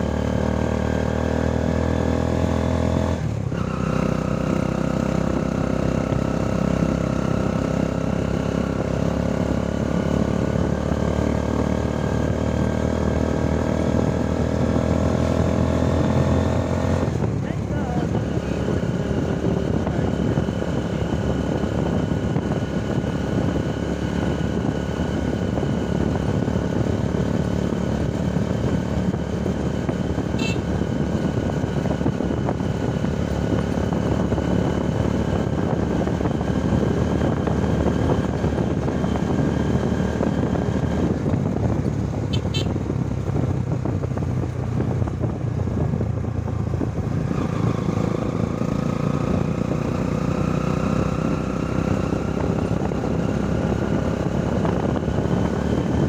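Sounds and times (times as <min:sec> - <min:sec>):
motorcycle tricycle engine running: 0:00.0 - 0:56.0
road and wind rush: 0:00.0 - 0:56.0.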